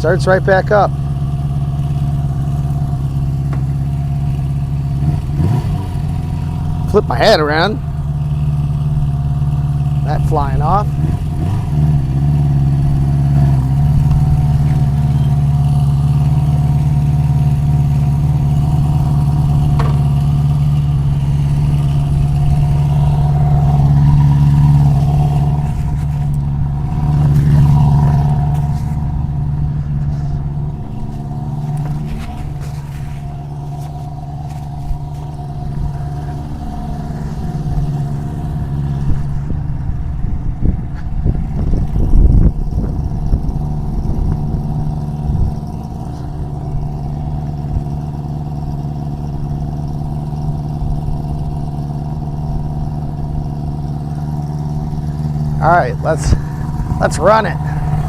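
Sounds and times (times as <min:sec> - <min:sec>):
motorcycle engine running and revving: 0:00.0 - 0:58.0.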